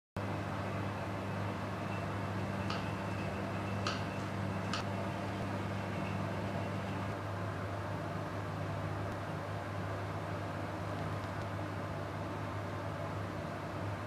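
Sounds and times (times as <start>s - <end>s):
low electrical hum: 0.2s - 14.0s.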